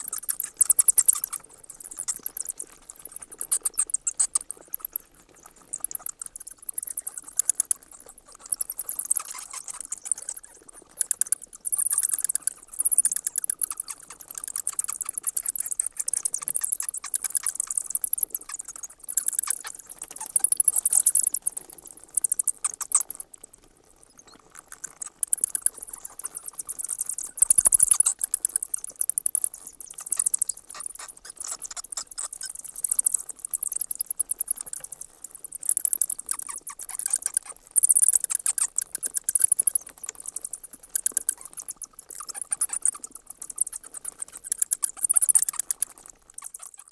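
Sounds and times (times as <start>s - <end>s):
bats chittering: 0.0s - 5.0s, 8.5s - 23.2s, 25.0s - 33.8s, 35.6s - 40.7s, 41.3s - 46.8s.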